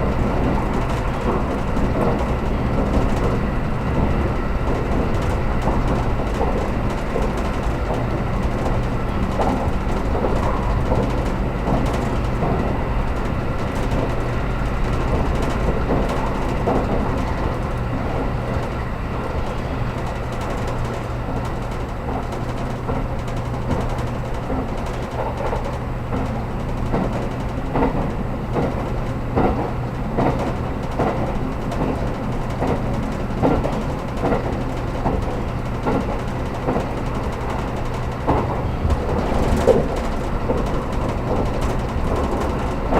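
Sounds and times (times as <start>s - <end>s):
train cabin rumble and hum: 0.0s - 42.9s
wheels clicking on track: 0.0s - 42.9s.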